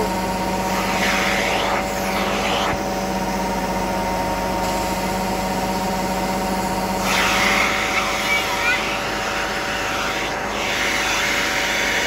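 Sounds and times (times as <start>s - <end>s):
vacuum motor whining: 0.0s - 12.0s.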